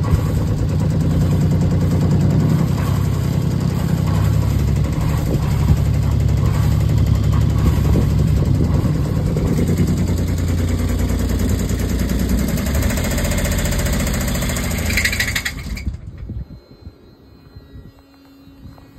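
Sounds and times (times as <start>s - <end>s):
higher rattle: 0.0s - 16.0s
marine diesel engine running: 0.0s - 16.2s.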